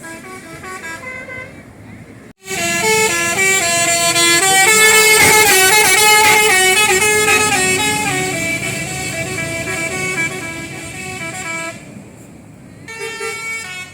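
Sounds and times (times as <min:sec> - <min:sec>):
bus horn playing a melody: 0:00.0 - 0:01.7, 0:02.4 - 0:11.9, 0:12.9 - 0:13.9.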